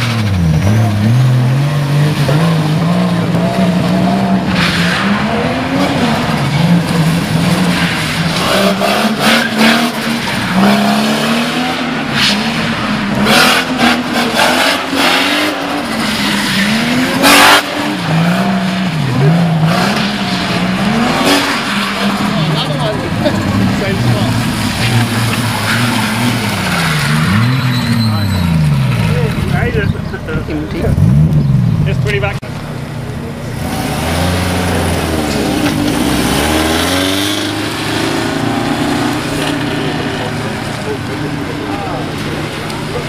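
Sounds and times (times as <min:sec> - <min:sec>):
car engine revving hard: 0:00.0 - 0:29.8, 0:33.5 - 0:43.0.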